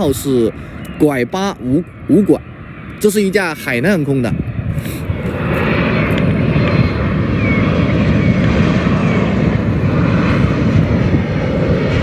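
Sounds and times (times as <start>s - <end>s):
jet airliner passing close: 0.0s - 12.0s.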